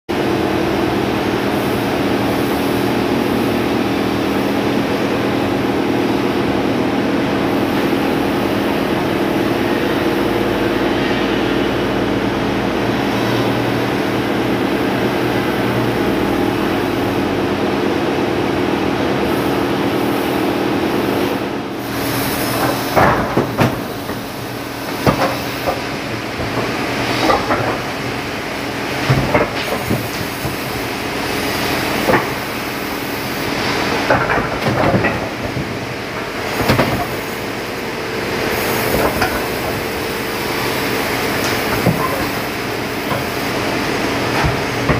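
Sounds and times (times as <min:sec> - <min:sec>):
forklift engine running: 0:00.1 - 0:44.9.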